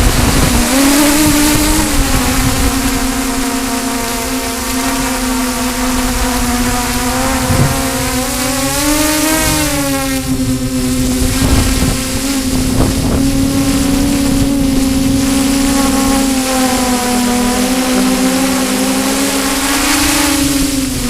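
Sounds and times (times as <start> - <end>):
drone propellers whining: 0.0 - 21.0
wind buffeting microphone: 0.0 - 21.0.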